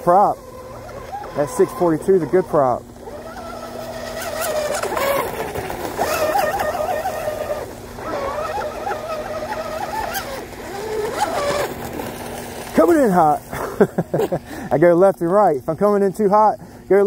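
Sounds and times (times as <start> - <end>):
rc boat electric motor whining: 0.0 - 14.8.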